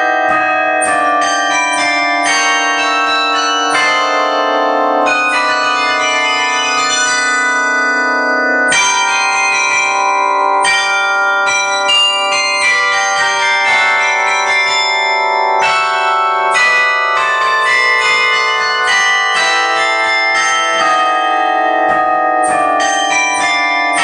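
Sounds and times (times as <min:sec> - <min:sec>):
carillon bells playing a melody: 0:00.0 - 0:24.0.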